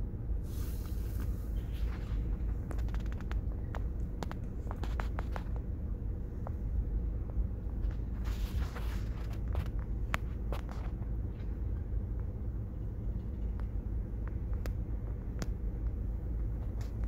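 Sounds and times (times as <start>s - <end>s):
freight train rumble: 0.0s - 17.0s.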